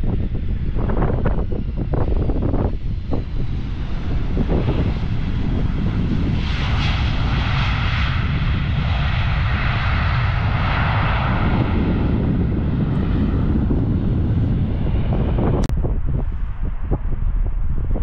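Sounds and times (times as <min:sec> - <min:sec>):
jet engine noise: 0:00.0 - 0:18.0
low rumble: 0:00.0 - 0:18.0.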